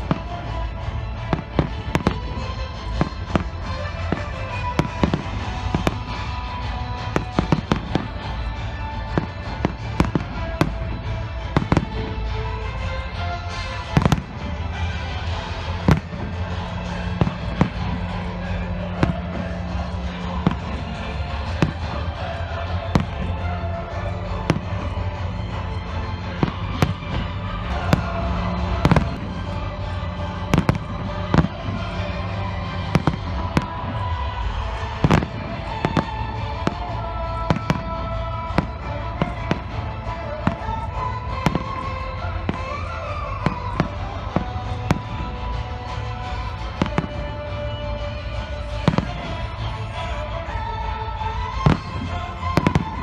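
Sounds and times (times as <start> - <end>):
fireworks bursting with bangs: 0.0 - 53.0
music playing: 0.0 - 53.0.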